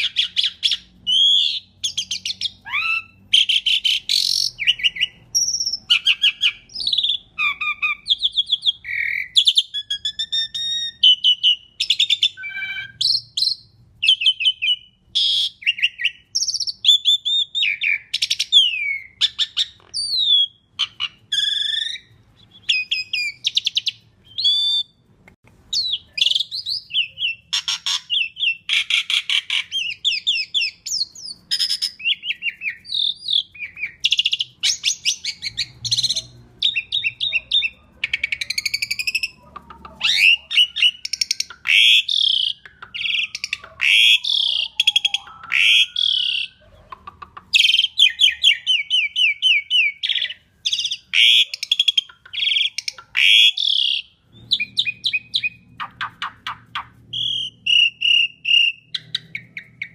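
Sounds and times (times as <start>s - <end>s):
bird singing whistles and trills: 0.0s - 25.0s, 25.7s - 39.4s, 40.0s - 46.7s, 47.5s - 59.9s.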